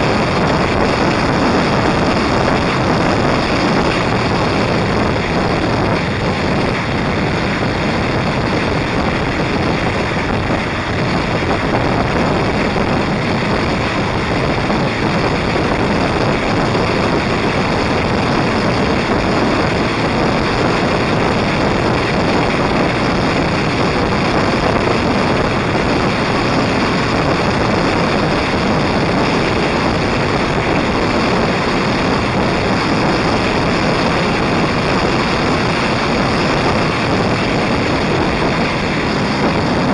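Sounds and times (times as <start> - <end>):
motorcycle riding noise: 0.0 - 39.9
wind buffeting microphone: 0.0 - 39.9.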